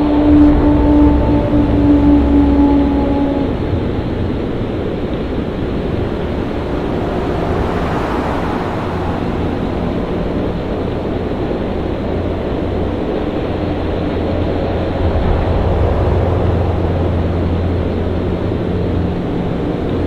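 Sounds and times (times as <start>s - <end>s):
wind: 0.0s - 20.0s
surf rushing: 0.3s - 20.0s.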